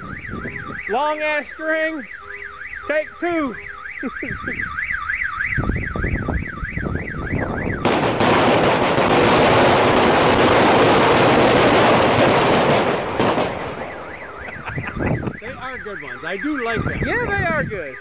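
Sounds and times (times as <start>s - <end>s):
car alarm warbling: 0.0s - 8.1s, 10.6s - 18.0s
firecrackers going off: 0.0s - 17.9s.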